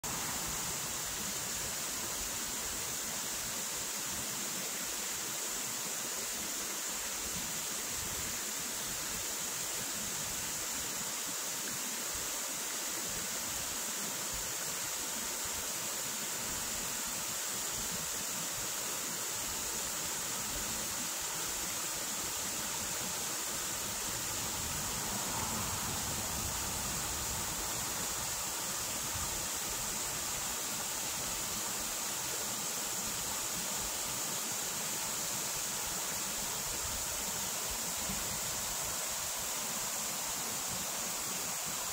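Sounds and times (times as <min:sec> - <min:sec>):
waterfall rushing over stones: 0:00.0 - 0:41.9.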